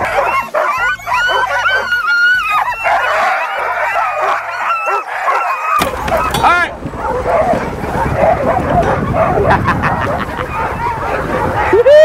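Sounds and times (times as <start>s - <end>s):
dogs yipping and barking: 0.0s - 12.0s.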